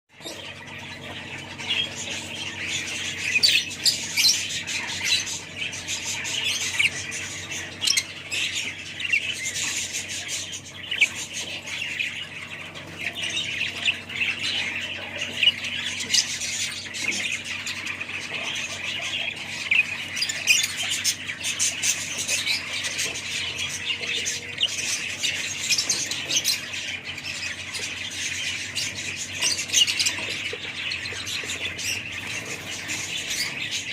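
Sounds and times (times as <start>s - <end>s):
parrots chattering and squawking: 0.1s - 33.9s.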